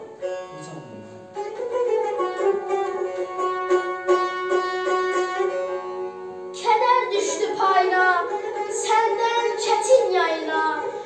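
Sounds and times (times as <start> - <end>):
plucked string melody: 0.0 - 11.0
sustained string tones: 0.0 - 11.0.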